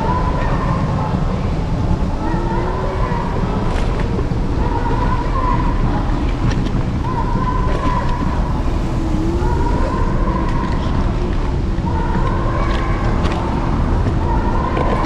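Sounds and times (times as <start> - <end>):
electric scooter motor whine: 0.3 - 13.4.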